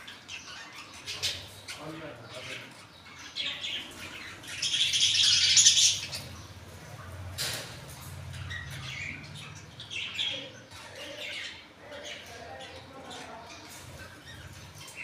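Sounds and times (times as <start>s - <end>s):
parakeets chirping and squawking: 0.0s - 15.0s.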